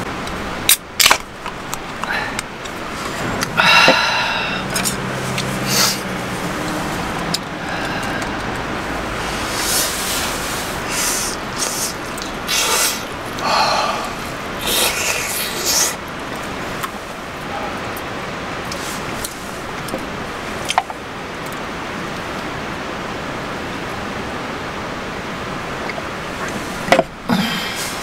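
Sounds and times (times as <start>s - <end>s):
stream flowing: 0.0s - 28.0s.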